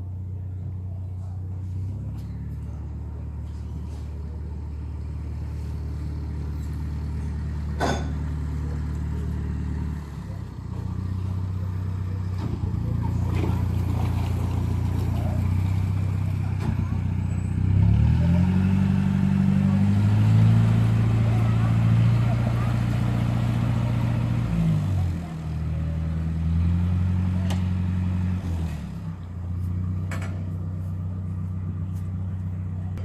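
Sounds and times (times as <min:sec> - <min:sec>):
road noise: 0:00.0 - 0:33.0
vehicle engine running: 0:00.0 - 0:33.0.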